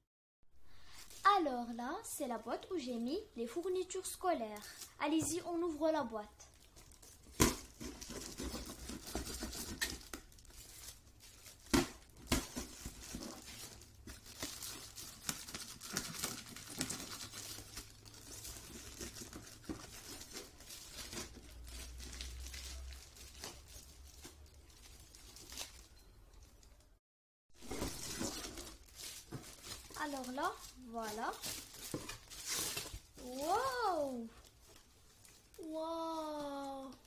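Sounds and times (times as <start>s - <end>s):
gift wrap crinkling: 6.4s - 26.7s, 27.6s - 37.0s.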